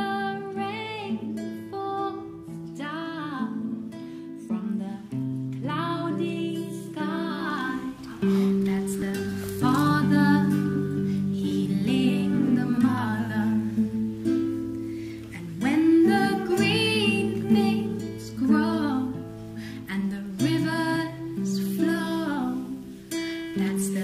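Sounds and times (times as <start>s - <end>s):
wordless singing: 0.0s - 24.0s.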